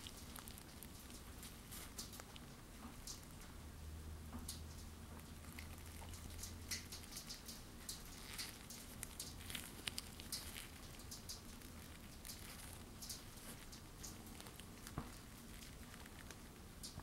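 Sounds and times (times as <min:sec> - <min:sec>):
metal ring crinkling and ticking: 0:00.0 - 0:03.6, 0:04.4 - 0:17.0.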